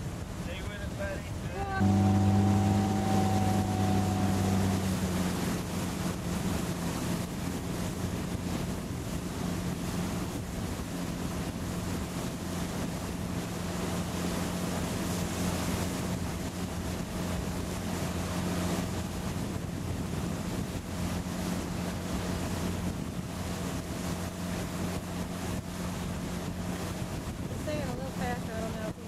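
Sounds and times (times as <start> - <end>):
water rushing past: 0.0 - 28.7
motorboat engine droning: 0.0 - 29.0
wind buffeting microphone: 0.0 - 29.0.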